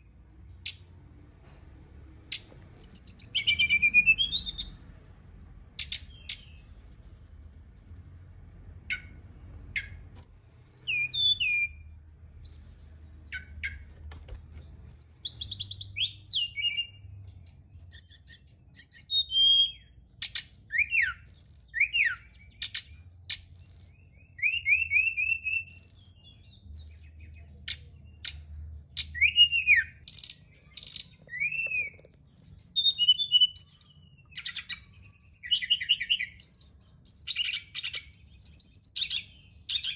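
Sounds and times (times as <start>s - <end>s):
faint low hum: 0.0s - 39.9s
songbird chirping and trilling: 0.0s - 39.9s.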